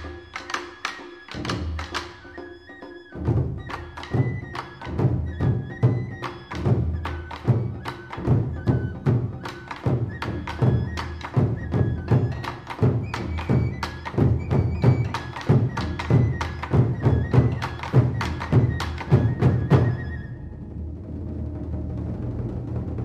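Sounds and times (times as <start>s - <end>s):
drum beat: 0.0s - 2.4s, 3.2s - 20.2s.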